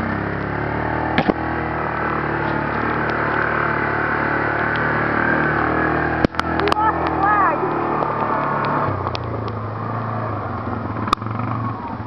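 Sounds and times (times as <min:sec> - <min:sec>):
off-road vehicle engine running: 0:00.0 - 0:12.0
road and air noise: 0:00.0 - 0:12.0.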